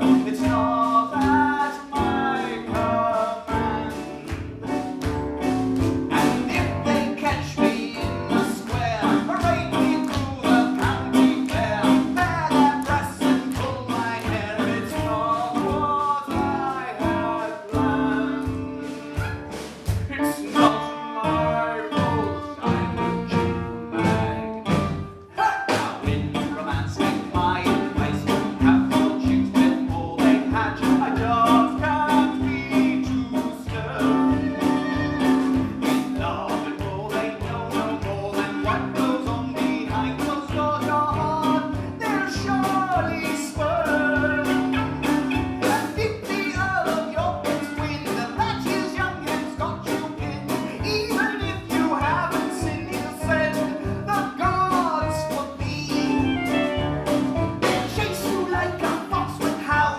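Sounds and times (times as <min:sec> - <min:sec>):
live band playing roots music: 0:00.0 - 0:59.9.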